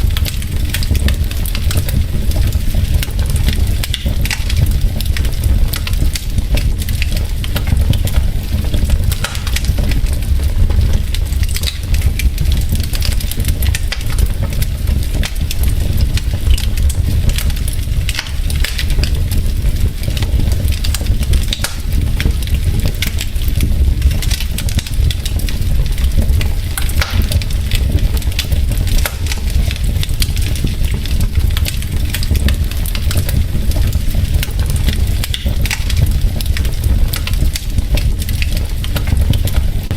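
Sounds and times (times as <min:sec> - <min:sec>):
wood logs crackling in fireplace: 0:00.0 - 0:39.9.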